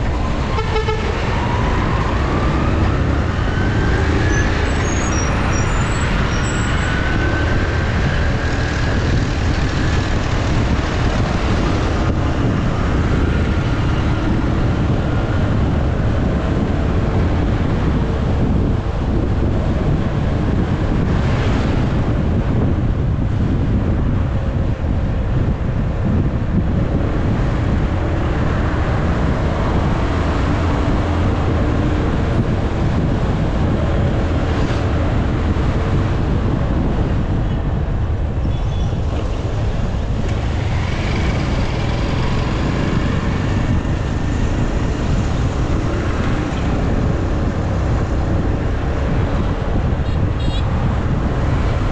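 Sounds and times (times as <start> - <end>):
wind on microphone: 0.0 - 51.9.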